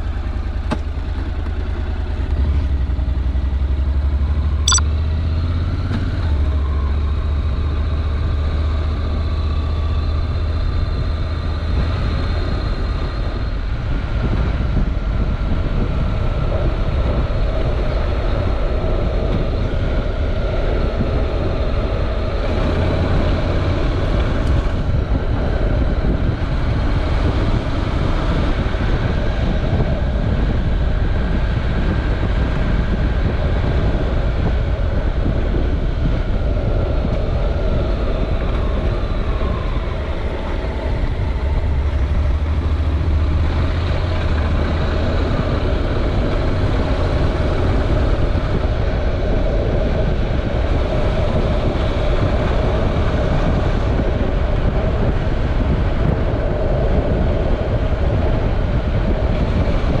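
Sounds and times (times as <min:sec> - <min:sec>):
wind noise on microphone: 0:00.0 - 1:00.0.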